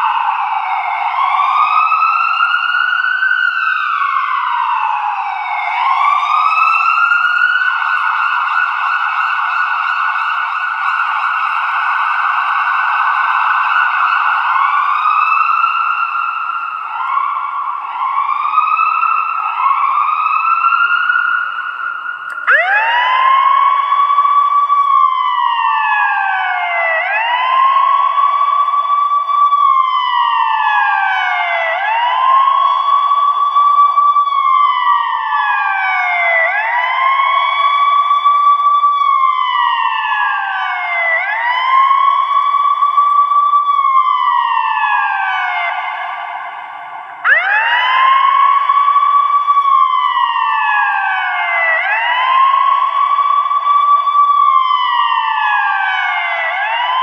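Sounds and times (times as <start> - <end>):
ambulance siren wailing: 0.0 - 57.0.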